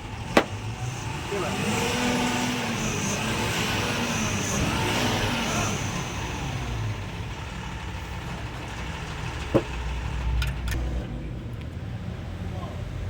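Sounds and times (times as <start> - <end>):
engine pulsing rumble: 0.0 - 13.0.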